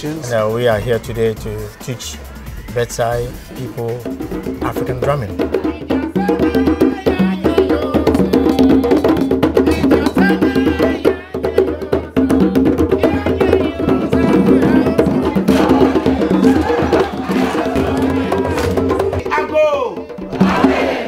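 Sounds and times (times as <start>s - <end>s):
hand drums playing: 0.0s - 21.0s
voices singing: 0.0s - 21.0s
wood-block-like percussion: 0.0s - 21.0s.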